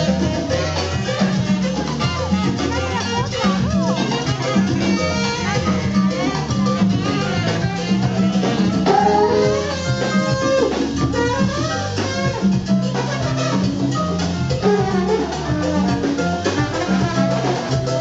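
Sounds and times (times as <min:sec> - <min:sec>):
bass line: 0:00.0 - 0:18.0
drum kit: 0:00.0 - 0:18.0
live band playing music: 0:00.0 - 0:18.0.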